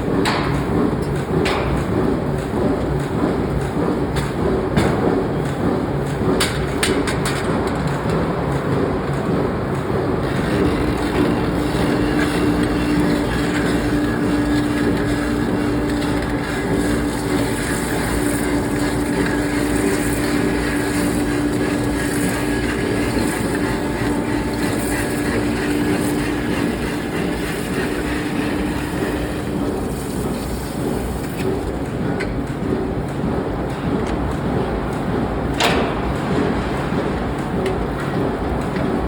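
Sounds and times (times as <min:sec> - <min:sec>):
industrial machinery rumble: 0:00.0 - 0:39.0
steady machine hum: 0:00.0 - 0:39.0.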